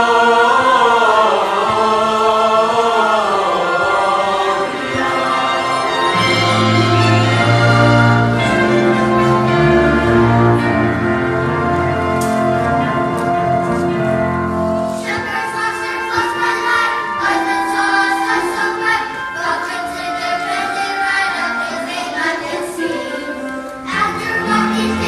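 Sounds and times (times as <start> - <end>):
choir singing: 0.0 - 25.0
instrumental accompaniment: 0.0 - 25.0.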